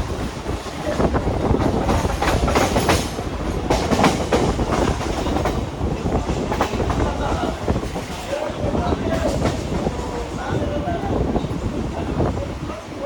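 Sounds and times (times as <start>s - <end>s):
wheels clacking over rail joints: 0.0s - 11.6s
train rumbling on track: 0.0s - 13.0s.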